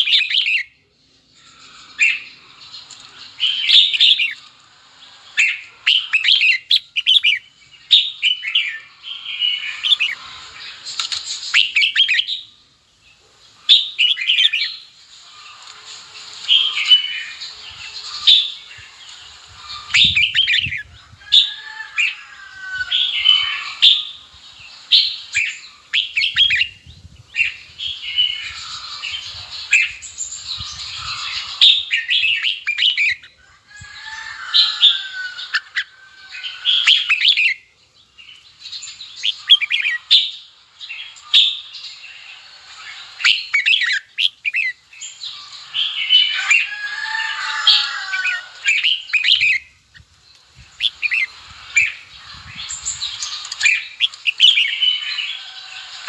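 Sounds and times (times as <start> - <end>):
birds singing and chirping: 0.0 - 56.0.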